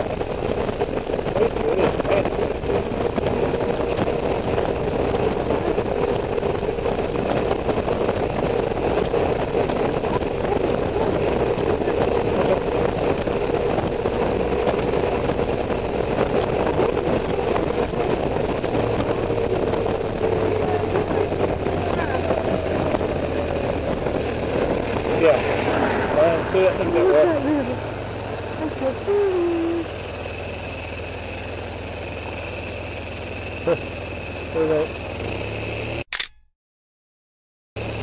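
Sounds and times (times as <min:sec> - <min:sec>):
motorcycle engine drone: 0:00.0 - 0:36.3, 0:37.8 - 0:38.0
wind and road noise: 0:00.0 - 0:36.4, 0:37.8 - 0:38.0.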